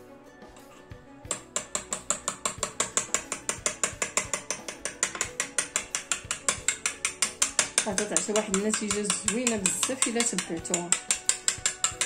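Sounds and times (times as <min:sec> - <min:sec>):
utensil clinking in glass bowl: 0:01.4 - 0:12.0.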